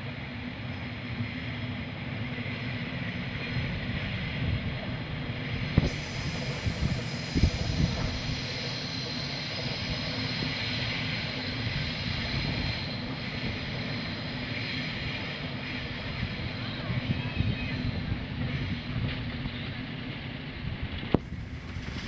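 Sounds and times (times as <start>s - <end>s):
small train engine running: 0.0s - 22.0s.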